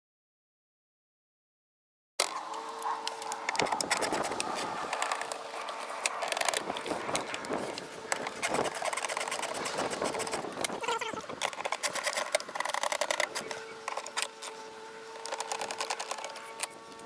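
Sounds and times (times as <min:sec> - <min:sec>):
plastic and metal parts rattling: 0:02.2 - 0:17.0.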